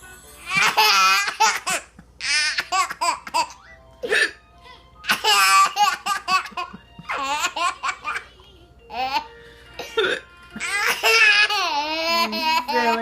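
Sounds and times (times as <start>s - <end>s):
baby laughing: 0.4s - 13.0s.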